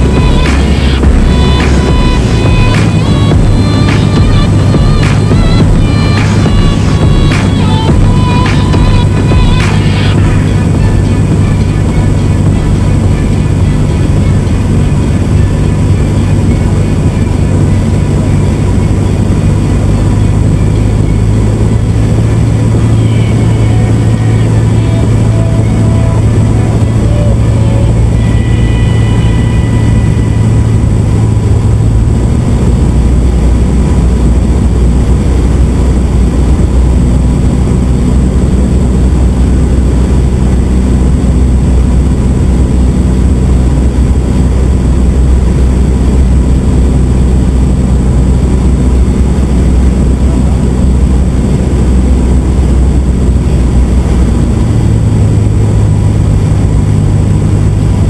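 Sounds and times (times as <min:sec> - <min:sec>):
airplane engine droning in cabin: 0:00.0 - 0:58.0.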